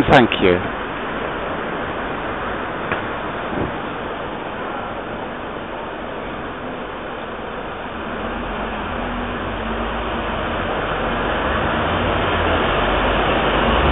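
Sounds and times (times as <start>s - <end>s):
street traffic noise: 0.0s - 13.9s
vehicle engine rumble: 0.0s - 13.9s.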